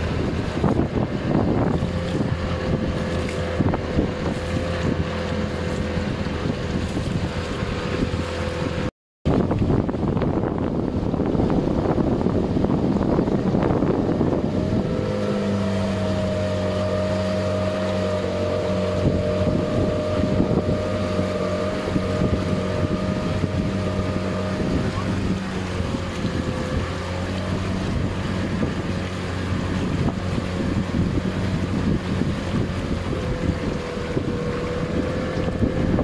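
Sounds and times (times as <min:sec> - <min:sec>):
boat motor humming: 0:00.0 - 0:36.0
wind buffeting microphone: 0:00.0 - 0:36.0.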